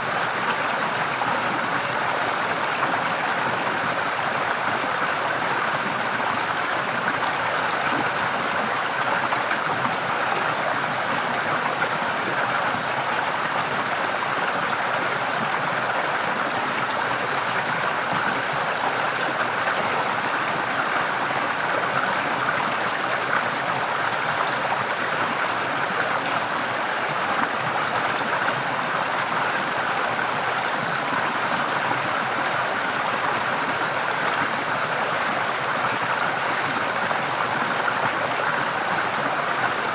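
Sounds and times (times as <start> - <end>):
stream flowing and splashing: 0.0 - 39.9.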